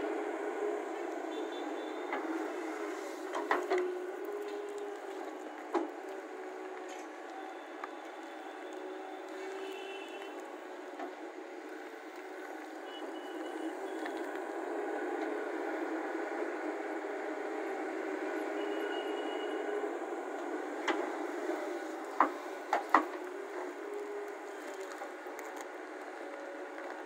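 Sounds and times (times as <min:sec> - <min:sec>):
excavator engine and hydraulics: 0:00.0 - 0:27.0.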